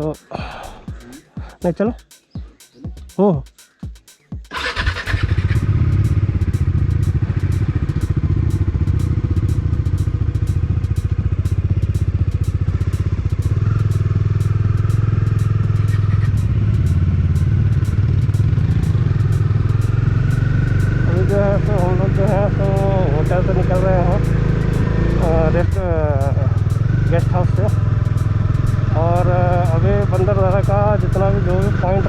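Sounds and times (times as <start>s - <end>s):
motorcycle engine running: 4.3s - 32.0s.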